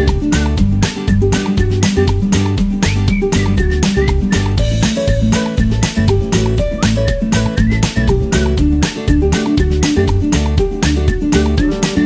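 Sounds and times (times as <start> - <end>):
music with quick beat: 0.0 - 12.0.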